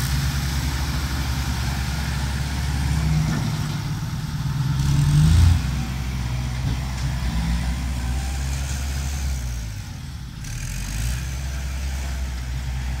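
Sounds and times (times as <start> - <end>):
truck diesel engine pulling away: 0.0 - 13.0.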